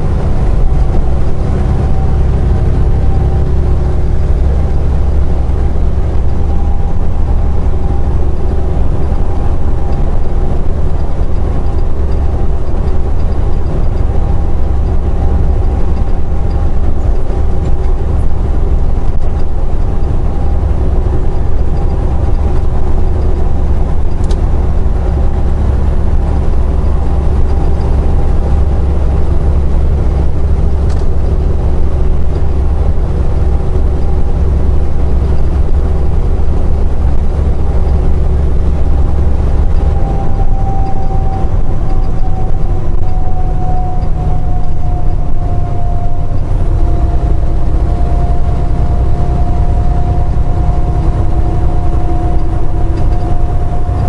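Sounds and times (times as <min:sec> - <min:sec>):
road noise: 0:00.0 - 0:54.0
truck engine drone: 0:00.0 - 0:54.0.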